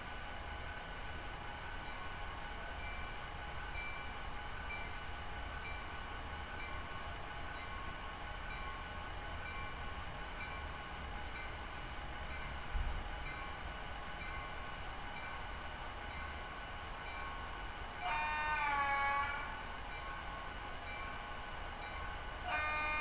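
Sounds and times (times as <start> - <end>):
diesel locomotive rumble from small speaker: 0.0 - 23.0.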